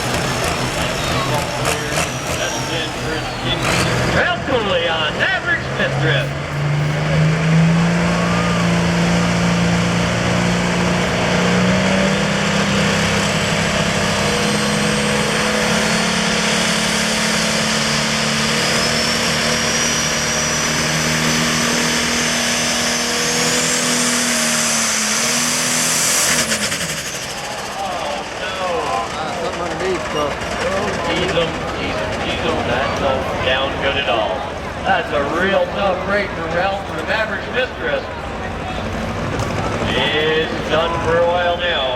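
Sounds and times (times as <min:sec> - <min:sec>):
diesel tractor engine at full power: 0:00.0 - 0:41.9.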